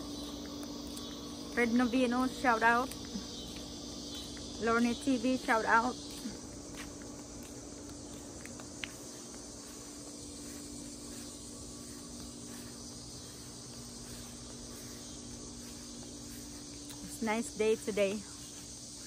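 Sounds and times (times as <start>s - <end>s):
insects chorus hissing: 0.0s - 19.0s
low steady hum: 0.0s - 19.0s.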